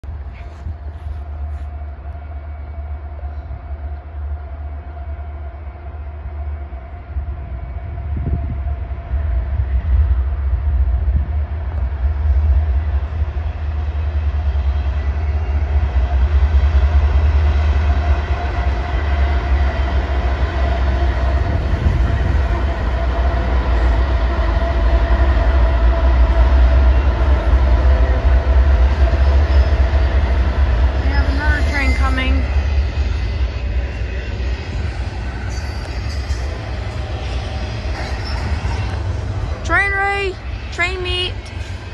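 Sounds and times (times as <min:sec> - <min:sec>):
diesel locomotives rumbling: 0:00.0 - 0:41.9.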